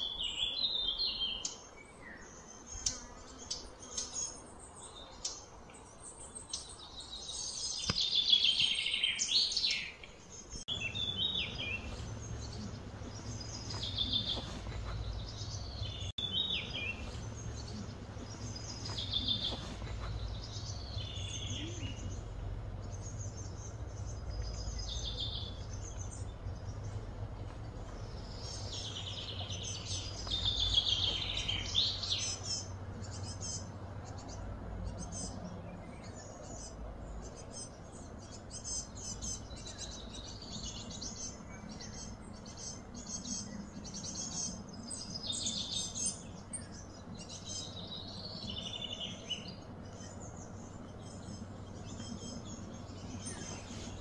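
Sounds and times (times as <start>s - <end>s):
birds chirping: 0.0s - 54.0s
low background hum: 0.0s - 54.0s.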